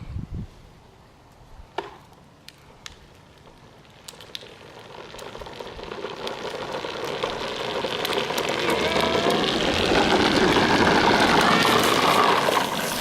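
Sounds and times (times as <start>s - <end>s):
toy truck wheels rumbling: 2.5s - 13.0s.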